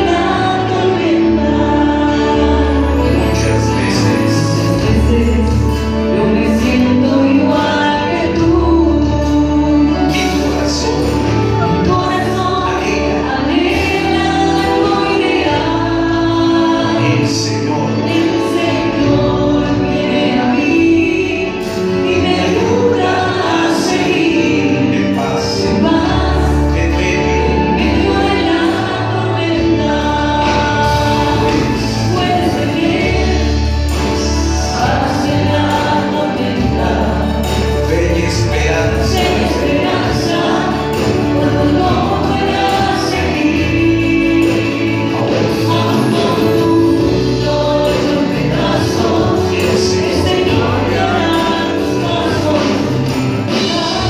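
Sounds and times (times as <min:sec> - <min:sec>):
band with strong bass: 0:00.0 - 0:54.0
group of voices singing: 0:00.0 - 0:54.0.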